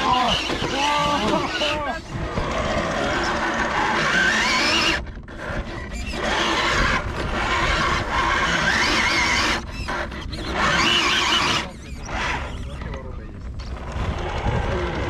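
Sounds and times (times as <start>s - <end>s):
toy truck motor whining: 0.0s - 13.1s, 13.7s - 15.0s.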